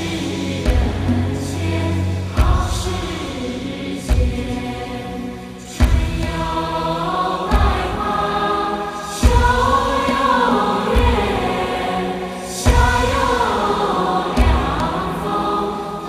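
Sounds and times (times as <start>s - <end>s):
chant-like sung voices: 0.0s - 16.0s.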